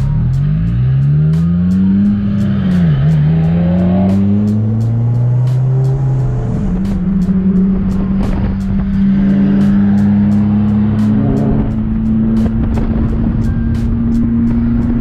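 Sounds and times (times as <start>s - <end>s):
background music with steady beat: 0.0s - 15.0s
car engine accelerating: 0.0s - 15.0s.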